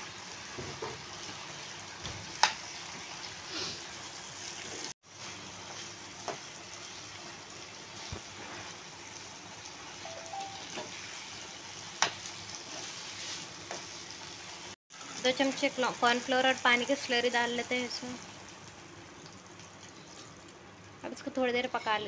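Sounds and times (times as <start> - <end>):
food sizzling in sauce: 0.0 - 21.8.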